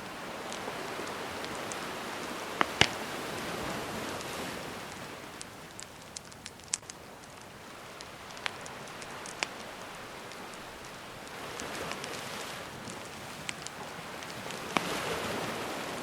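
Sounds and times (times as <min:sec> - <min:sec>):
sea waves washing in: 0:00.0 - 0:06.1, 0:06.9 - 0:16.0
campfire crackling and popping: 0:00.0 - 0:16.0.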